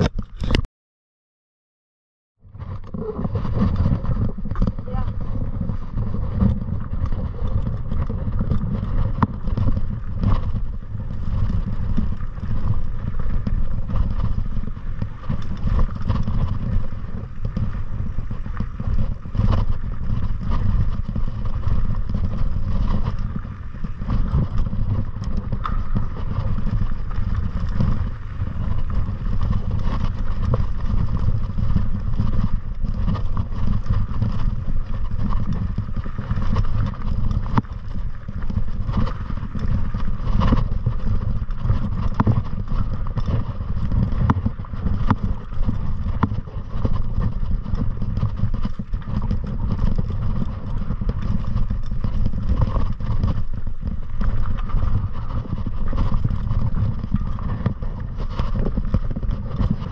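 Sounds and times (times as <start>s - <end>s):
bike rattles and knocks: 2.4s - 59.9s
wind buffeting microphone: 2.4s - 59.9s.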